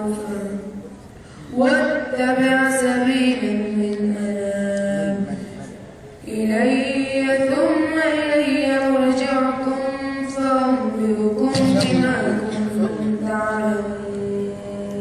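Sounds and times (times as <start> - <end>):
boy chanting melodic recitation: 0.0 - 15.0.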